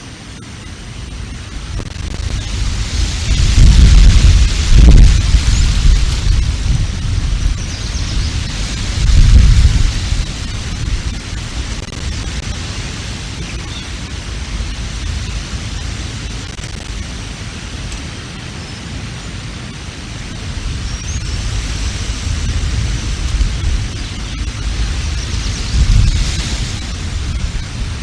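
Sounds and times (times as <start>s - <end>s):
wind buffeting microphone: 0.8s - 16.4s, 20.2s - 28.0s.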